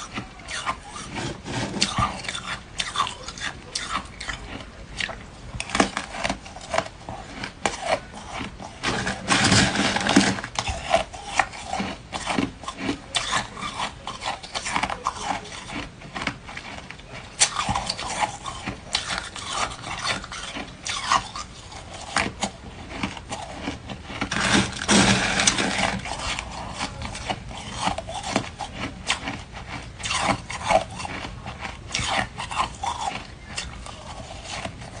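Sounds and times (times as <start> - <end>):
person crunching ice: 0.0 - 4.6, 5.6 - 16.8, 17.4 - 35.0.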